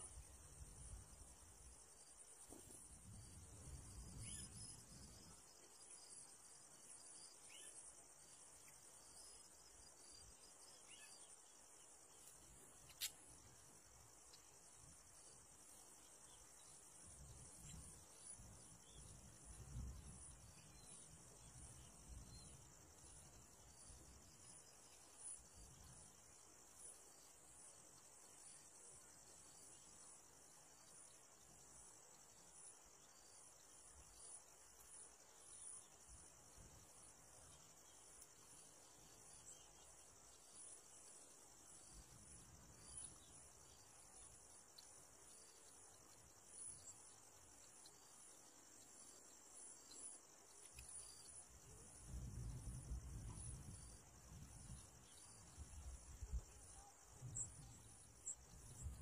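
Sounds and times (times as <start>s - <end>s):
insect trill: 0.0s - 59.0s.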